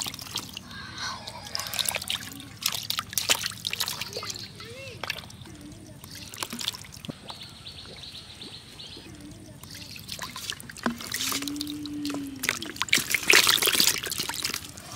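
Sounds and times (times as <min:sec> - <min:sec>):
fish splashing in water: 0:00.0 - 0:09.0, 0:09.6 - 0:14.9.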